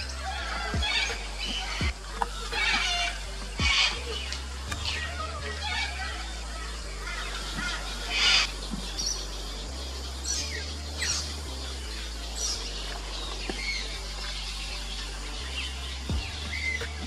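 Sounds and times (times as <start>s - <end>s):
birds chirping high: 0.0s - 17.0s.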